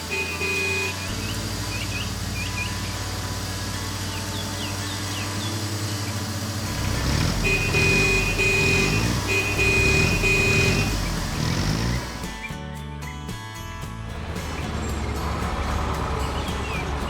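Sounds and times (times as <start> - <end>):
construction vehicle engine hum: 0.0 - 17.0.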